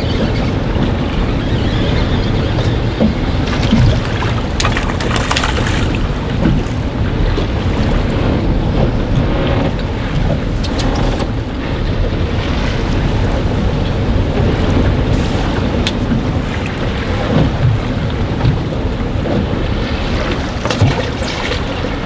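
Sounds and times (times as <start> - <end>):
waves sloshing: 0.0 - 22.0
wind buffeting microphone: 0.0 - 22.0.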